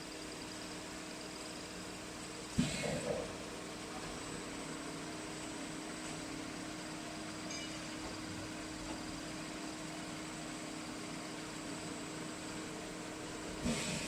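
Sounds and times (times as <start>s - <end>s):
faint high whine: 0.0s - 14.0s
machining centre humming: 0.0s - 14.0s.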